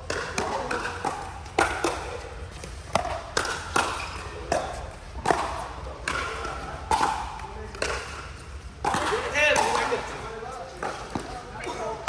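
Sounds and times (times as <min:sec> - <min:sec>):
paddles hitting plastic ball: 0:00.0 - 0:10.2.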